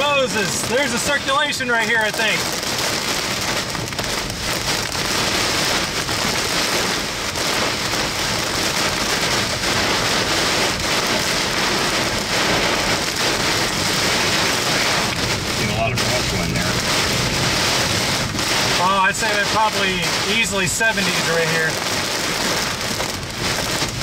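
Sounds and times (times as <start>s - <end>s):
rain pelting car windshield: 0.0s - 24.0s.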